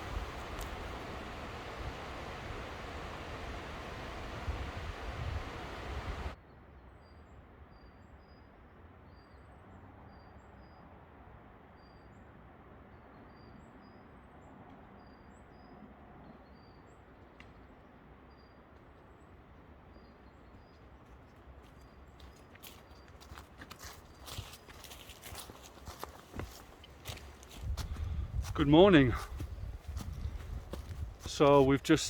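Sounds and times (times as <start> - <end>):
quiet outdoor hiss: 0.0 - 27.6, 28.3 - 32.0.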